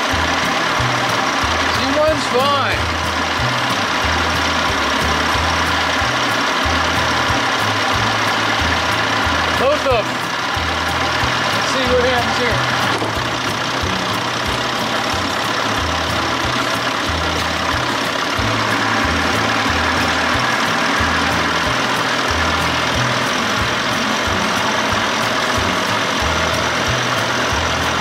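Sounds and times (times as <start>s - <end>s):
engine running: 0.0s - 28.0s
low pulsing: 0.0s - 28.0s.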